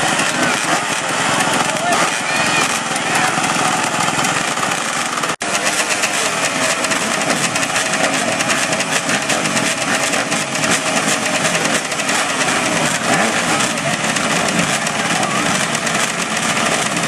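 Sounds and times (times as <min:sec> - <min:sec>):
racing motorcycle engines: 0:00.0 - 0:17.0.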